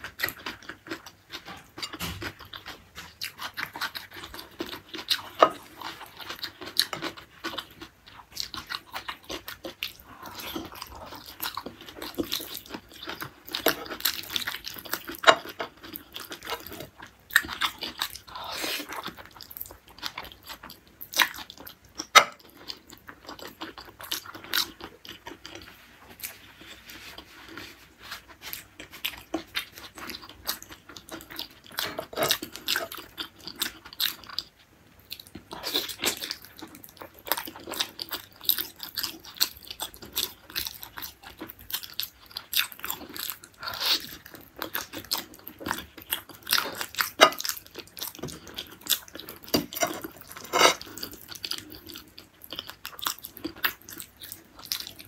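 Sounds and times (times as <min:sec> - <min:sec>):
person chewing and biting: 0:00.0 - 0:55.0.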